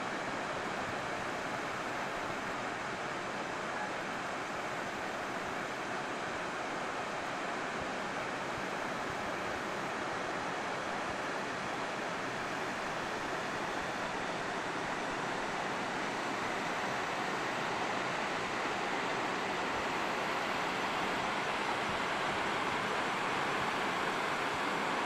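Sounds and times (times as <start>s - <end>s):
river water rushing over rocks: 0.0s - 25.0s.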